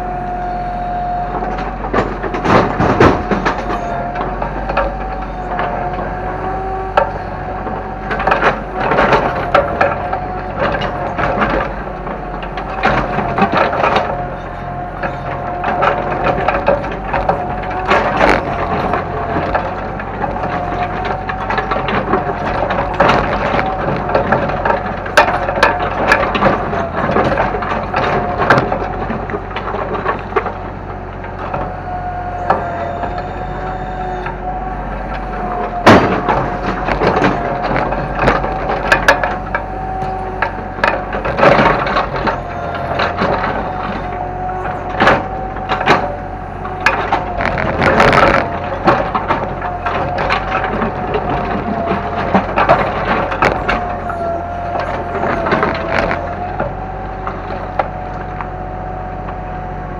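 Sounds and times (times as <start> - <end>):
wood splintering and debris crashing: 0.0 - 58.3
excavator engine whine: 0.0 - 59.9.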